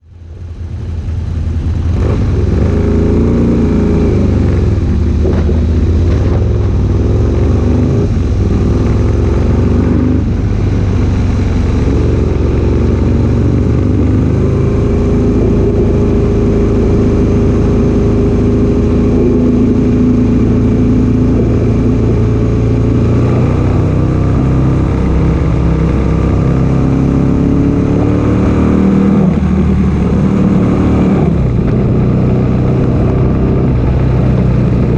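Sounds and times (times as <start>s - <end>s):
motorcycle engine revving hard: 1.4s - 34.9s.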